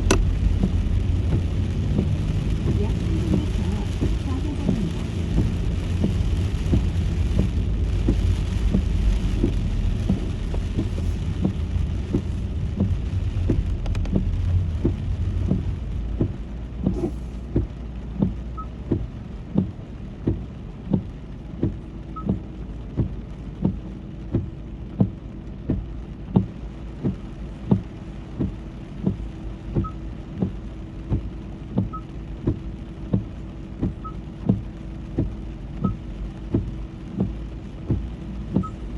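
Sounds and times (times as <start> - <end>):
regular ticking knock: 0.0 - 38.8
car road rumble: 0.0 - 38.9.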